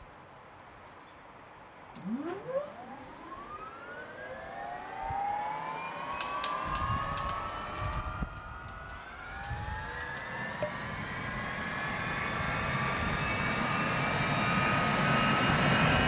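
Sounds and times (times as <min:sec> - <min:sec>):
jet engine whine rising: 0:01.9 - 0:16.0.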